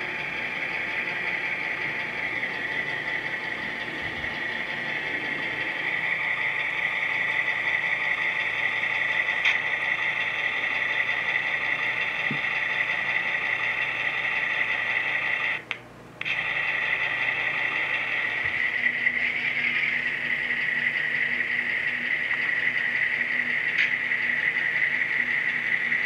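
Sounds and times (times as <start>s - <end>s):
model train humming: 0.0s - 26.0s.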